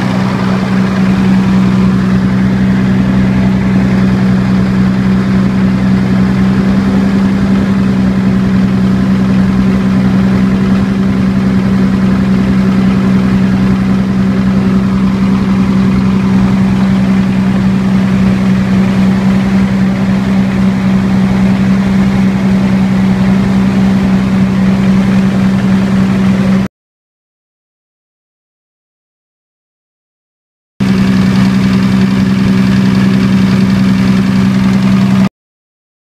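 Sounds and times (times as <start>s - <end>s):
diesel generator engine running: 0.0s - 26.7s, 30.8s - 35.3s.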